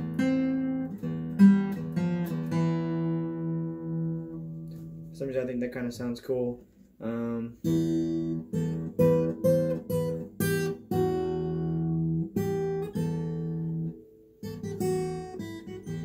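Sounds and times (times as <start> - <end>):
acoustic guitar chords: 0.0 - 16.0.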